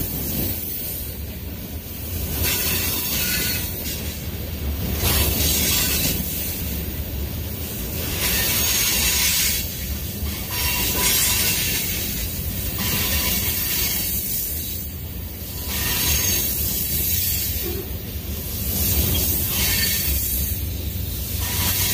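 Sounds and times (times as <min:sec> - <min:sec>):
steel wheels rumbling on rail: 0:00.0 - 0:21.9.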